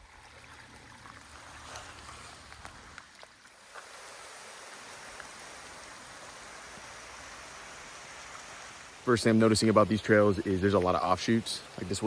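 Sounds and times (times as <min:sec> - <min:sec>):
water hissing in forest: 0:00.0 - 0:12.0.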